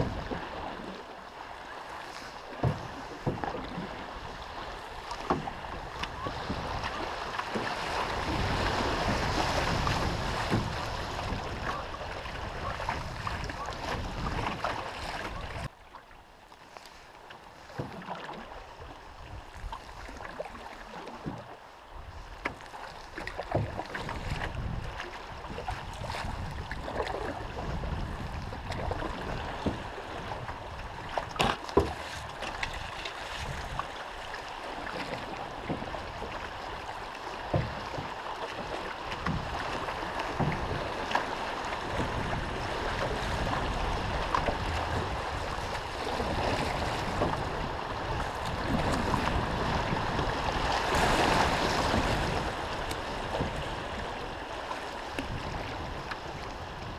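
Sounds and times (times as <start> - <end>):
river water splashing around canoe: 0.0 - 56.9.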